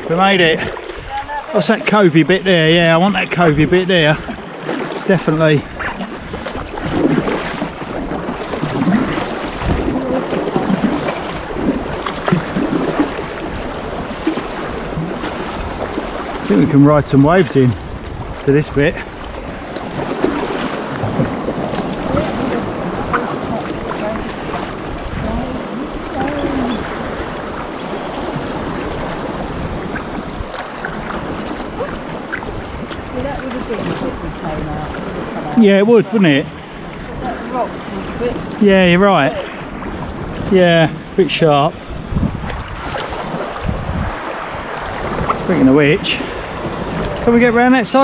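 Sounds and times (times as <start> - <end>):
water splashing around kayak: 0.0 - 48.0
wind buffeting microphone: 0.0 - 48.0.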